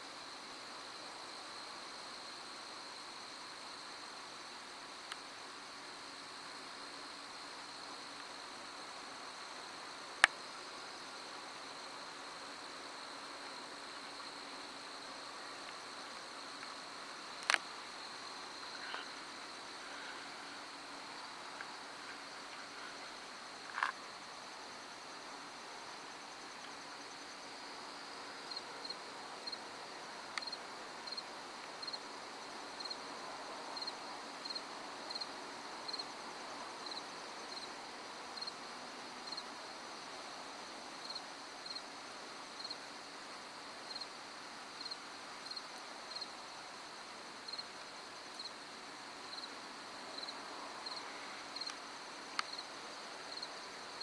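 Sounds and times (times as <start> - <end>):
cricket chirp: 0.0 - 54.0
crickets trilling: 0.2 - 54.0.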